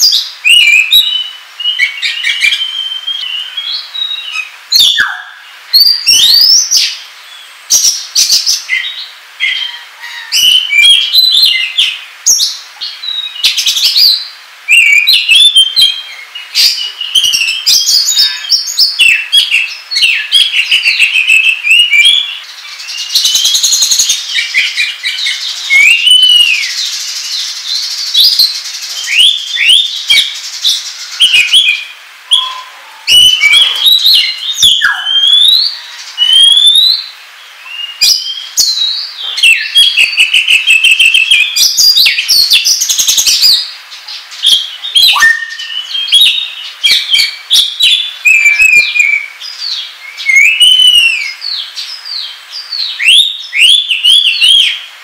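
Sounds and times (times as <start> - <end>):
bird singing whistles and trills: 0.0 - 43.7, 44.4 - 54.9.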